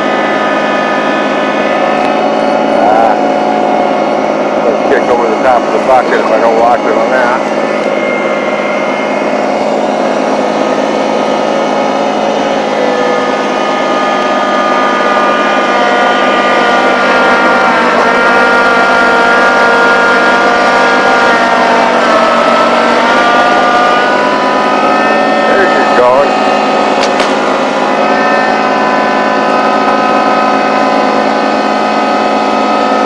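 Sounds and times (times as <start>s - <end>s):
tractor engine under load: 0.0s - 33.0s.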